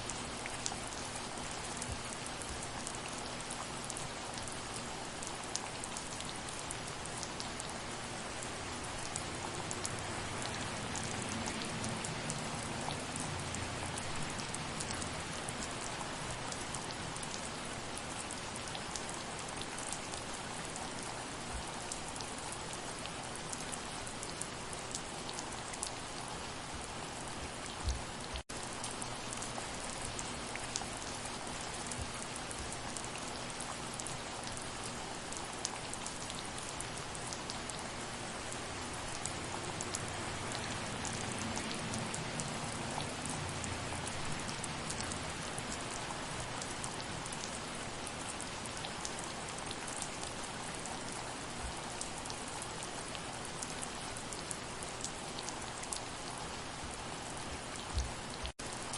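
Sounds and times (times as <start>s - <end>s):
soft rain with dripping drops: 0.0s - 58.9s.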